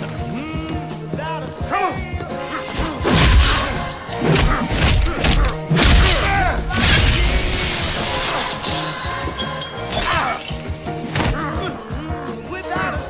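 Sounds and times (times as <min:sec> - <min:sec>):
score music: 0:01.8 - 0:12.6.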